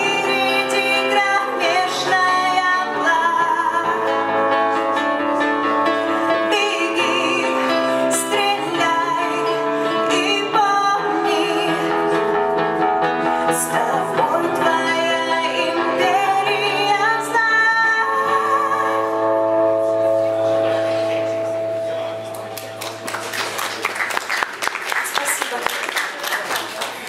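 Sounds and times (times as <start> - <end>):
person singing: 0.0 - 21.8.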